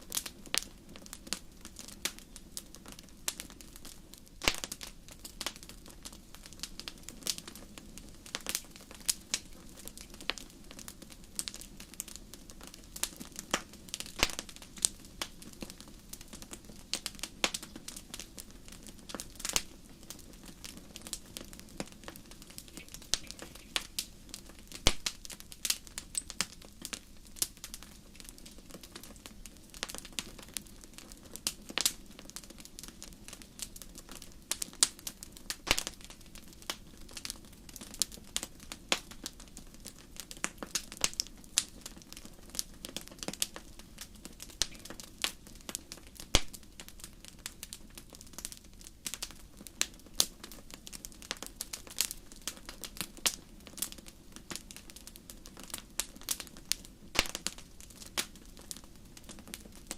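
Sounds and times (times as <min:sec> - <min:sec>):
fire crackling in fireplace: 0:00.0 - 0:59.9.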